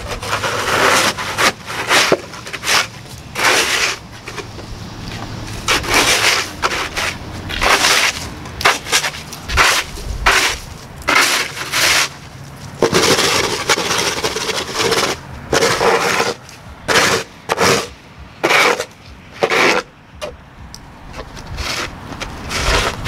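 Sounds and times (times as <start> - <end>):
snow shovel scraping concrete: 0.0 - 19.9, 21.2 - 23.0.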